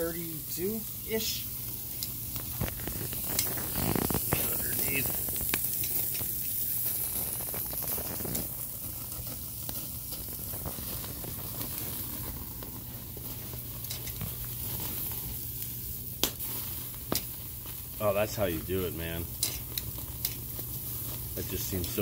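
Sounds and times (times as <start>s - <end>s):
fire popping and crackling: 0.0s - 22.0s
steaks sizzling on a grill: 0.0s - 22.0s.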